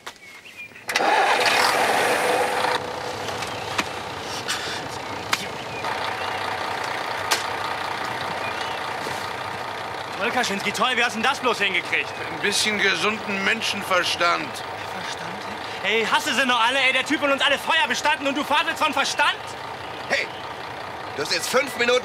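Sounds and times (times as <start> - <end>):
truck engine starting and idling: 0.9 - 22.0.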